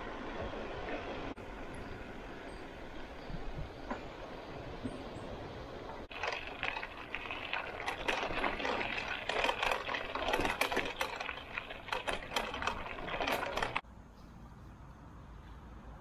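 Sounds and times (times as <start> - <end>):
bicycle tyres crunching gravel: 0.0 - 13.8.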